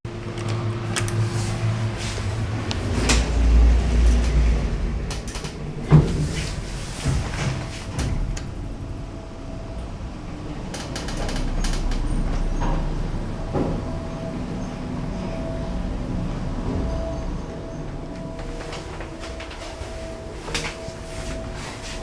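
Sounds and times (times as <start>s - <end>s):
low rumble: 0.1s - 21.5s
lift machinery: 0.1s - 22.0s
lift sliding doors: 0.1s - 22.0s.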